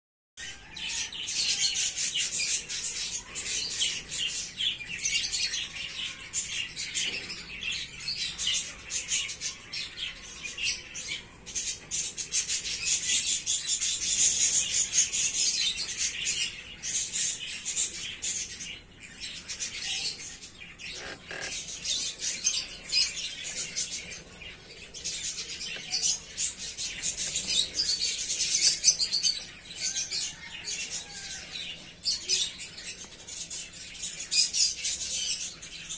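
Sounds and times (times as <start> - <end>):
small birds chirping: 0.4 - 35.9.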